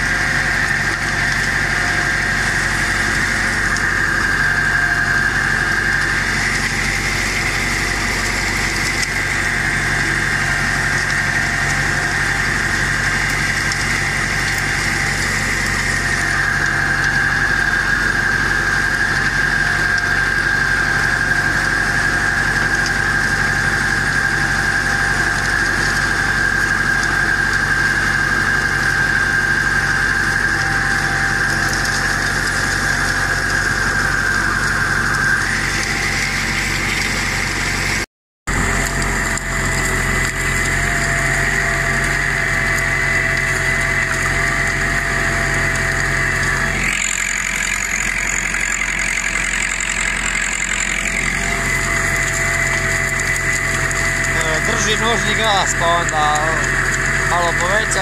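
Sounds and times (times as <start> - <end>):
steady high whine: 0.0 - 58.0
tractor diesel engine running: 0.0 - 58.0.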